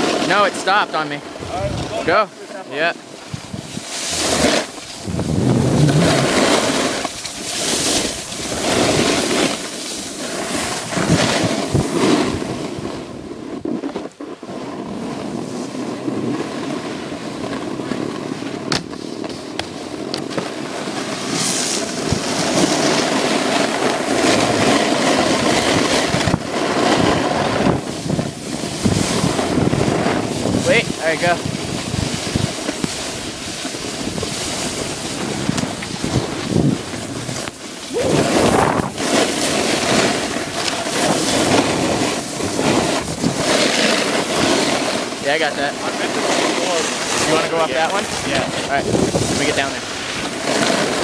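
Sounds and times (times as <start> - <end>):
skis carving packed snow: 0.0 - 51.0
wind on microphone: 0.0 - 51.0.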